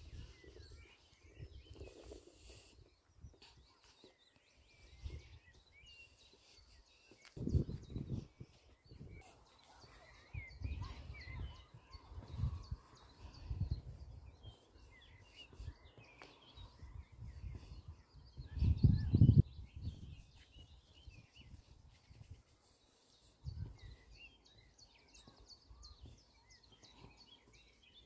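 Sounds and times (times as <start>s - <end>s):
songbirds chirping and singing: 0.0s - 28.0s.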